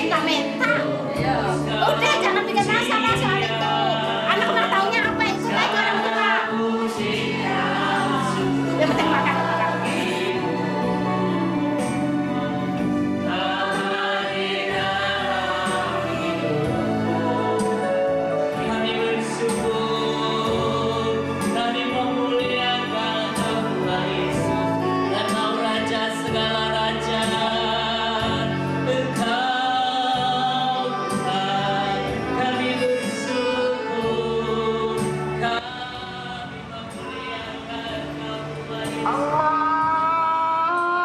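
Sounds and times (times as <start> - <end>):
gospel choir singing with band: 0.0 - 41.0.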